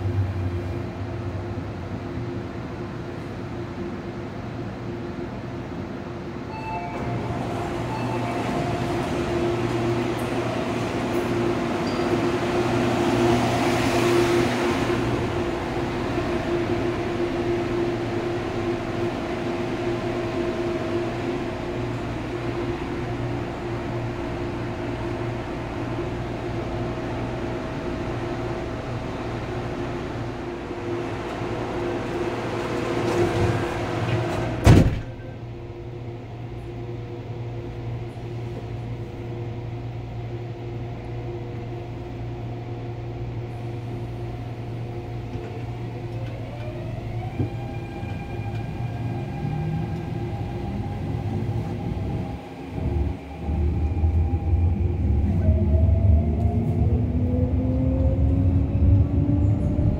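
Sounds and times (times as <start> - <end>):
train carriage running hum: 0.0 - 59.9.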